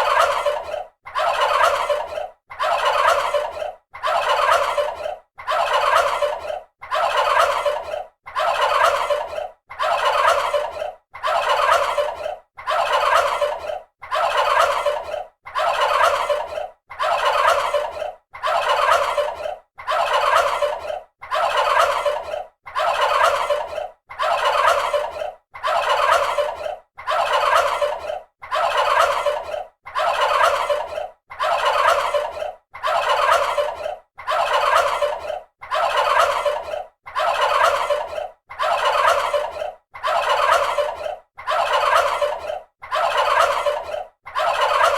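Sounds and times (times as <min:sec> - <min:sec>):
turkey gobbling: 0:00.0 - 0:44.9.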